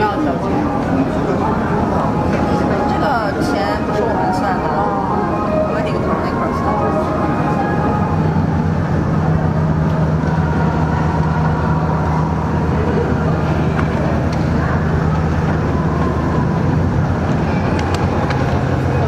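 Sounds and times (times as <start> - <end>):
escalator low hum: 0.0 - 19.0.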